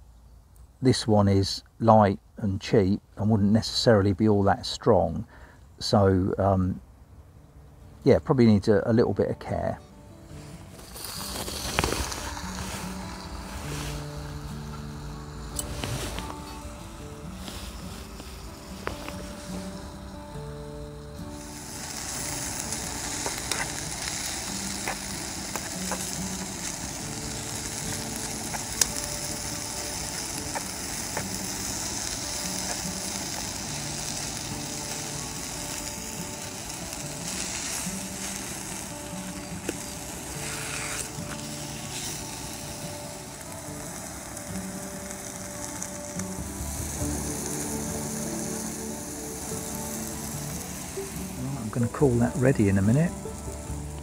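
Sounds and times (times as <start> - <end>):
steak sizzling in frying pan: 10.6 - 54.0.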